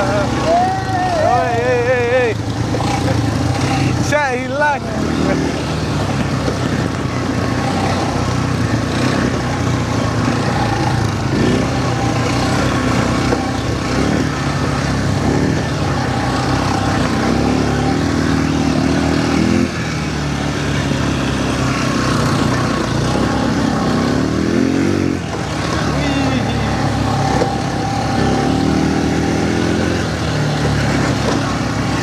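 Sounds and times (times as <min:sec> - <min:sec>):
quad bike engine revving: 0:00.0 - 0:32.0.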